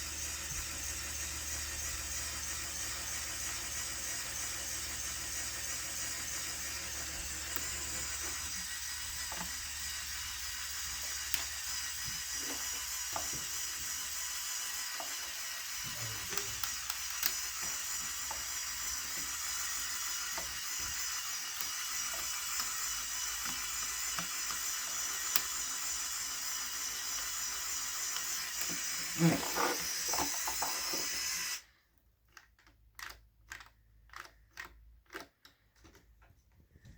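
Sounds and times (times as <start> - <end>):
small electric motor whirring: 0.0 - 31.8.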